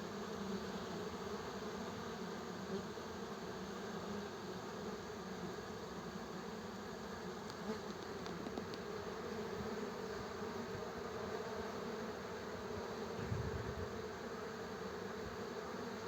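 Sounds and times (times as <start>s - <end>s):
honeybees buzzing: 0.1s - 16.0s.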